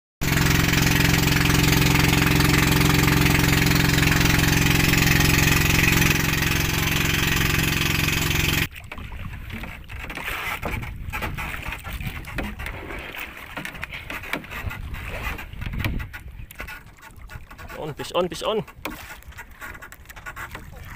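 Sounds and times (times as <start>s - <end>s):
boat engine running: 0.2s - 20.9s
wind and water noise: 0.2s - 20.9s.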